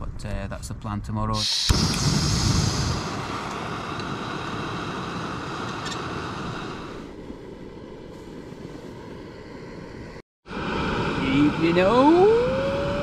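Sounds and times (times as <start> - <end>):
gas stove burner roaring hiss: 1.4 - 12.2.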